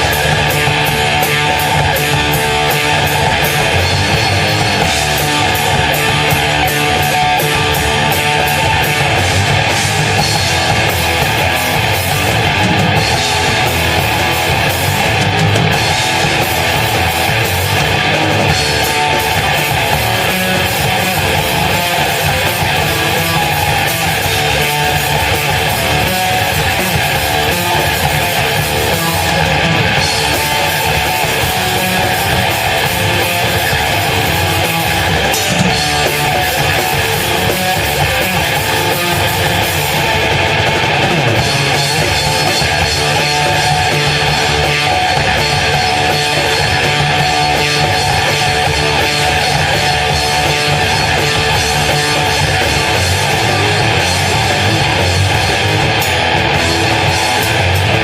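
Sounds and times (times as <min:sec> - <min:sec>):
heavy metal band playing live: 0:00.0 - 0:58.0
loud electric guitars: 0:00.0 - 0:58.0.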